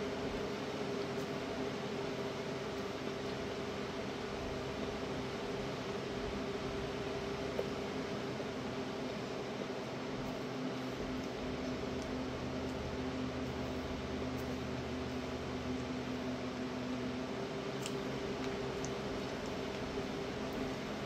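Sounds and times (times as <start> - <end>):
appliance hum and hiss: 0.0 - 21.0.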